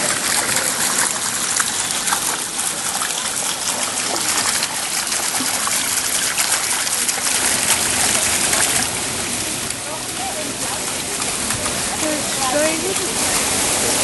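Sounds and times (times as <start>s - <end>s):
running water trickling and splashing: 0.0s - 14.0s.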